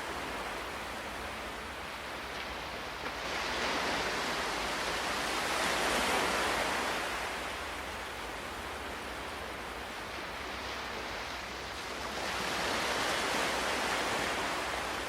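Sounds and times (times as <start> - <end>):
ocean waves: 0.0 - 15.0.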